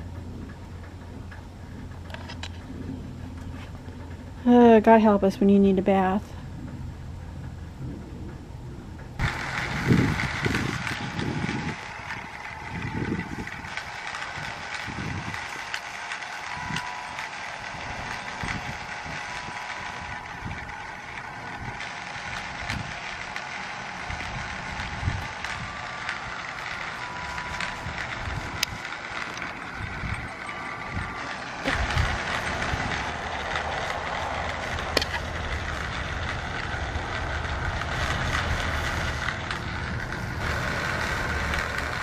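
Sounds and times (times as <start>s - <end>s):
wind rumble on microphone: 0.0s - 15.5s, 17.6s - 23.4s, 24.0s - 26.4s, 27.4s - 28.9s, 29.6s - 42.0s
dense buzzing drone: 0.0s - 42.0s.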